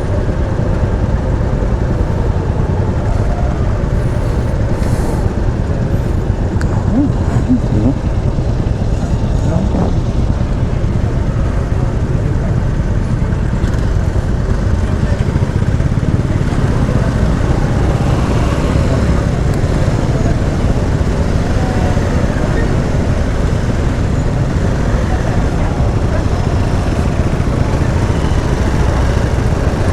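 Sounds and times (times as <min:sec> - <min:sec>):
surrounding traffic: 0:00.0 - 0:29.9
vehicle wind and engine rumble: 0:00.0 - 0:29.9.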